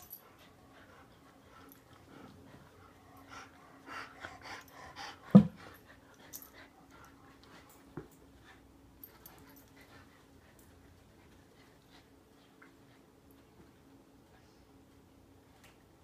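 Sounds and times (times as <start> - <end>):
dogs panting: 0.0 - 14.2.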